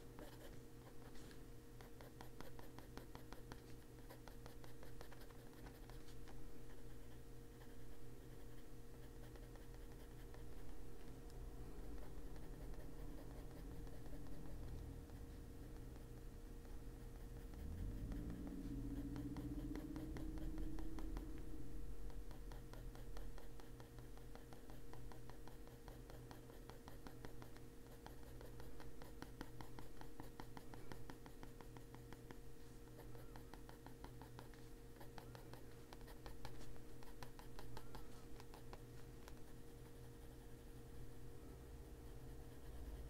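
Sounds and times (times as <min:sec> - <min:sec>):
steady low hum: 0:00.0 - 0:43.0
pencil scratching on paper: 0:00.2 - 0:11.1, 0:11.8 - 0:21.5, 0:22.1 - 0:41.2, 0:41.8 - 0:43.0.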